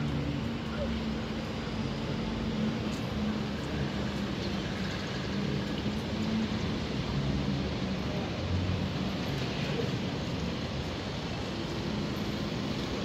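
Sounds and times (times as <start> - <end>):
city traffic noise: 0.0 - 13.0.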